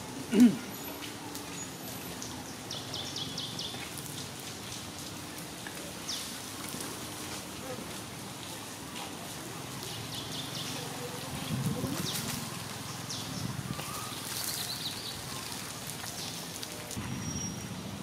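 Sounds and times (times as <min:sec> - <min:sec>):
outdoor background hiss: 0:00.0 - 0:18.0
foliage rustles and ticks: 0:00.1 - 0:17.2.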